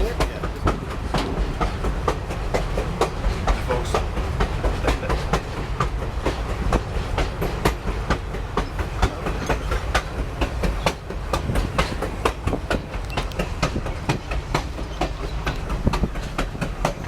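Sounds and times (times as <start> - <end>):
train wheels rumbling: 0.0 - 17.0
wheels clicking over rails: 0.0 - 17.0.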